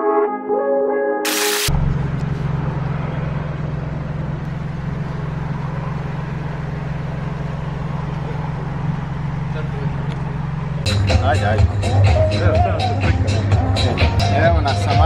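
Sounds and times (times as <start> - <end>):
engine idling: 1.7 - 15.0.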